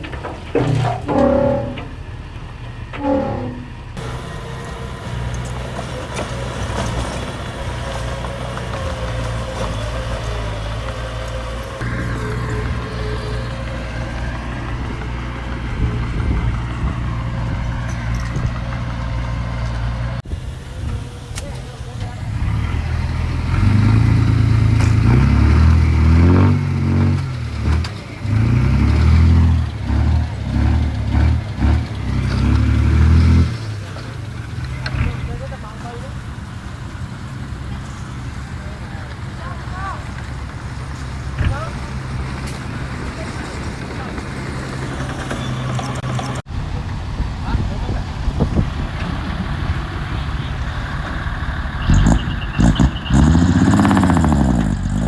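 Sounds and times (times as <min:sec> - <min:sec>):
heavy machinery diesel engine rumbling: 0:00.0 - 0:55.0.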